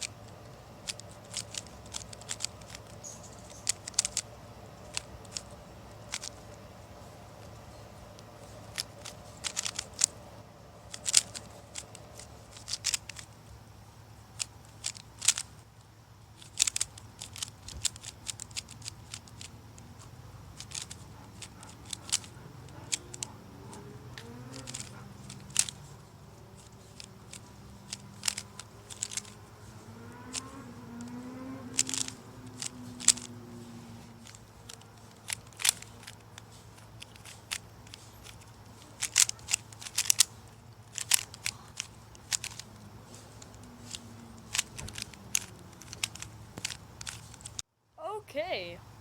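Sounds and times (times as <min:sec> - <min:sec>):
puzzle cube layers clicking: 0:00.0 - 0:06.6, 0:08.4 - 0:10.2, 0:10.8 - 0:13.4, 0:14.2 - 0:15.6, 0:16.4 - 0:29.5, 0:30.1 - 0:47.6.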